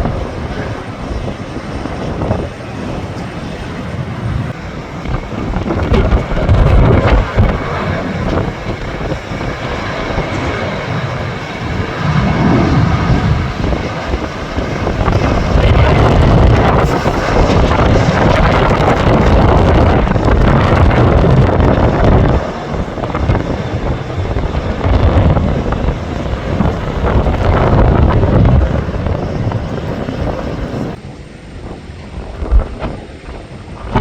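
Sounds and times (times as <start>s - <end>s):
gusty wind buffeting microphone: 0.0s - 34.0s
jet engines running: 0.0s - 34.0s.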